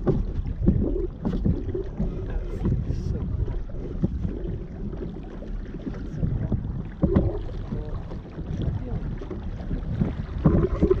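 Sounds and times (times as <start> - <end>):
water washing along hull: 0.0 - 11.0
wind buffeting microphone: 0.0 - 11.0.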